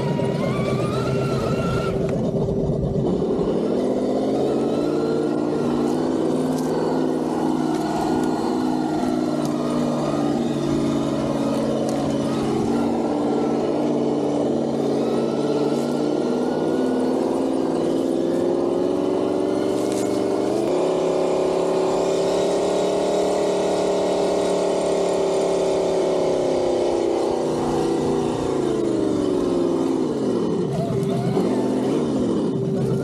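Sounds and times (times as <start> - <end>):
synthesized engine sound: 0.0 - 33.0.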